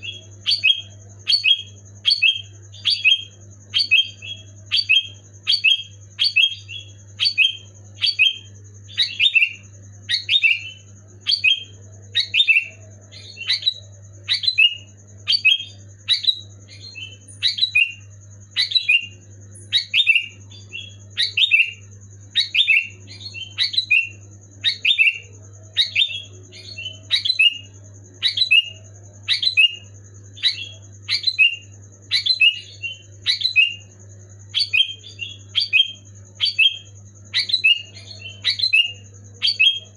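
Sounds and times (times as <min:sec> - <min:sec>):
bulbul calling: 0:00.0 - 0:39.9
faint high whine: 0:00.0 - 0:39.9.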